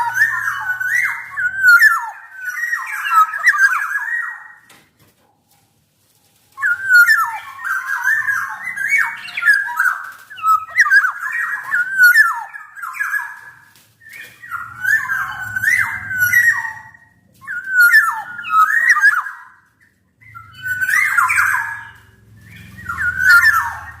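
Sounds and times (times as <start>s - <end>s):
oriole singing whistled notes: 0.0s - 4.7s, 6.6s - 24.0s.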